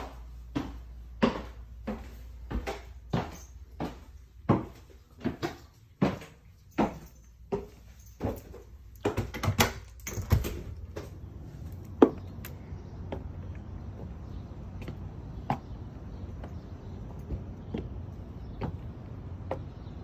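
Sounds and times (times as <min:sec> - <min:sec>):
low outdoor hum: 0:00.0 - 0:20.0.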